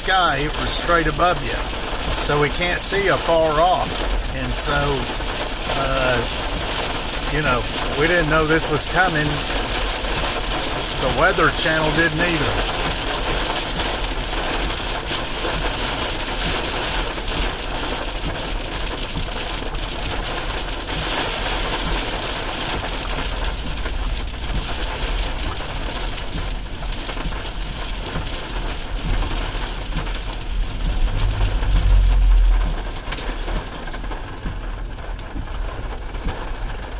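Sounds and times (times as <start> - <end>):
car rumbling on wet road: 0.0 - 36.9
heavy rain on car roof: 0.0 - 36.9.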